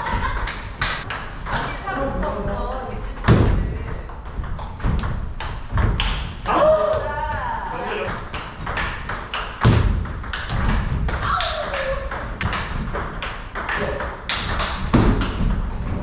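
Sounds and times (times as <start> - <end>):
table tennis balls clicking: 0.0 - 6.4, 8.0 - 16.0.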